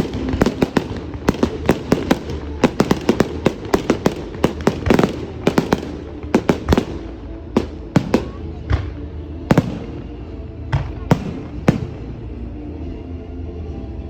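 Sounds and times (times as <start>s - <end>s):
fireworks bangs and crackles: 0.0s - 12.4s.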